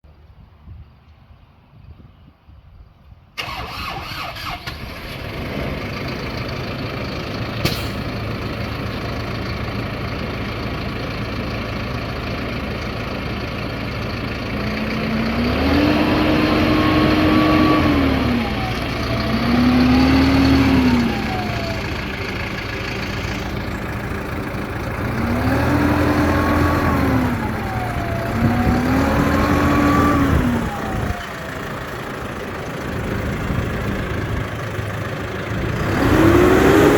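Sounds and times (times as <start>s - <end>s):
tractor diesel engine starting and idling: 3.4s - 36.9s
tractor engine revving: 3.4s - 36.9s.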